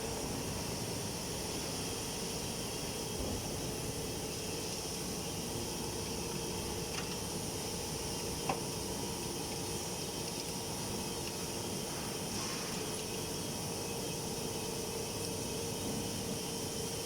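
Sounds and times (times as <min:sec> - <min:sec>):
hydraulic machine hiss and hum: 0:00.0 - 0:17.0.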